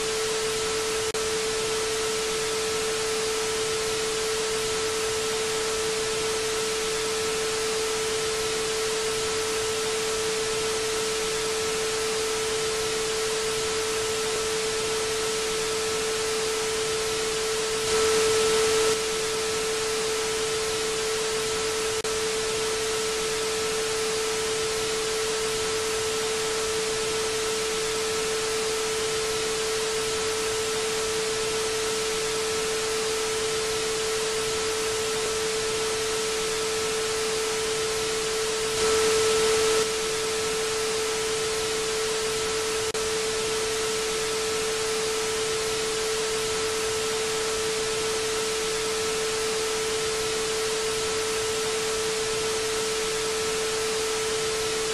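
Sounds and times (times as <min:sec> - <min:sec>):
constant mid-pitched tone: 0:00.0 - 0:54.9
television static hiss: 0:00.0 - 0:54.9.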